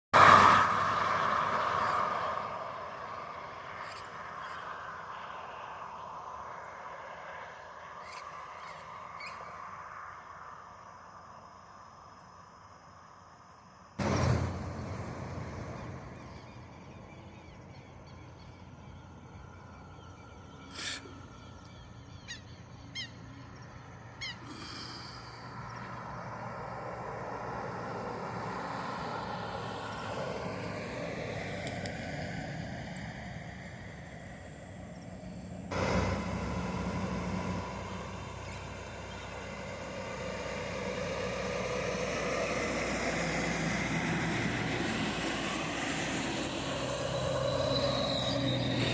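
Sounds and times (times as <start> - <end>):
distant engine passing: 0.2 - 10.6, 14.0 - 48.9.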